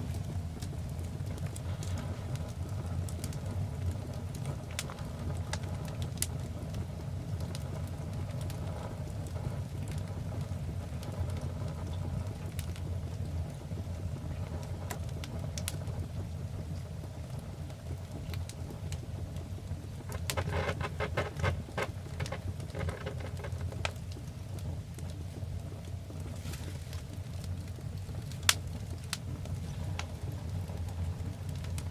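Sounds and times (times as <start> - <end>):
fire crackling in fireplace: 0.0 - 31.9.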